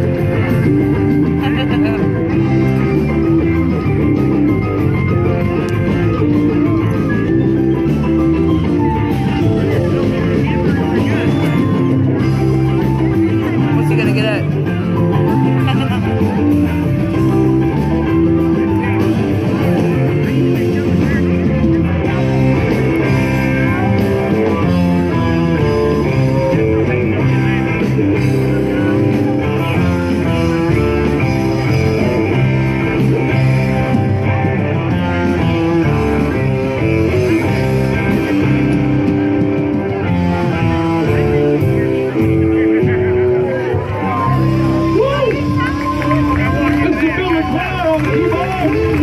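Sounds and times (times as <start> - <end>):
rock music with guitar: 0.0 - 49.0.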